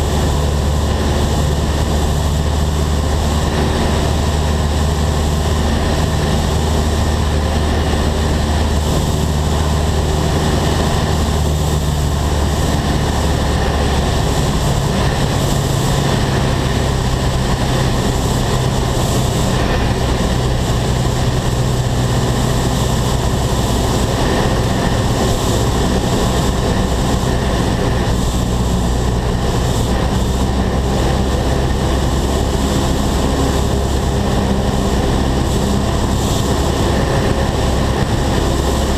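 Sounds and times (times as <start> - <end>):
airplane engine droning in cabin: 0.0 - 38.9.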